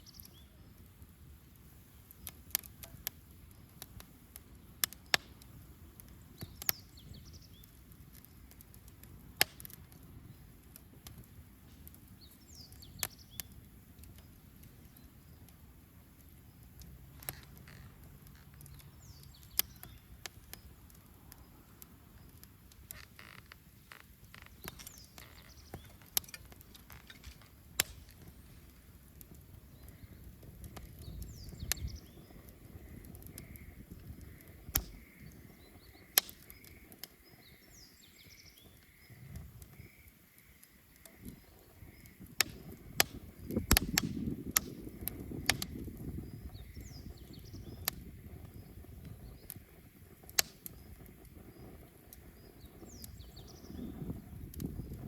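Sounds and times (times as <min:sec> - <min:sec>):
bonfire crackling and popping: 0:00.0 - 0:55.0
low rush of burning: 0:00.0 - 0:55.0.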